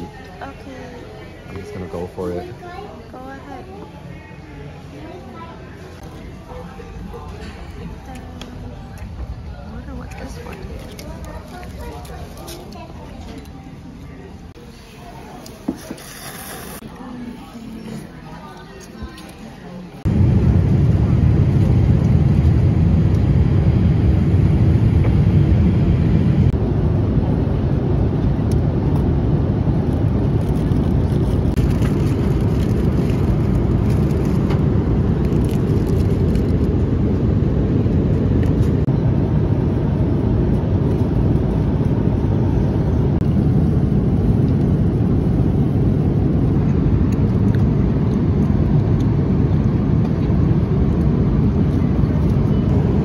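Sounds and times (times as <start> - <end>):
airliner engine and airflow rumble: 0.0 - 53.0.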